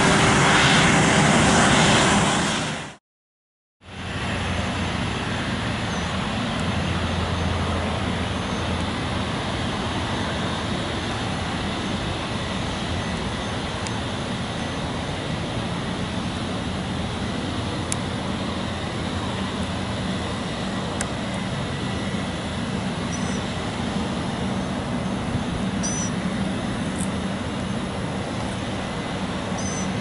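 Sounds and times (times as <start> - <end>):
jet engine hiss and rumble: 0.0 - 3.0, 3.8 - 30.0.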